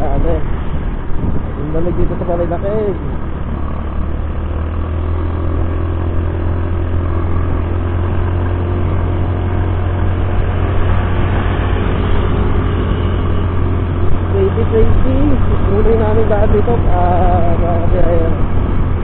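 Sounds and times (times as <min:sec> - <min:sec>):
road and wind noise: 0:00.0 - 0:19.0
scooter engine rumble: 0:00.0 - 0:19.0.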